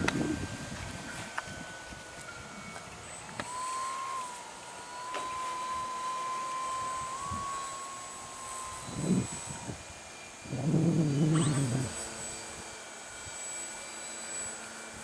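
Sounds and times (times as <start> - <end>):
electric motor and propeller whine: 0.0 - 15.0.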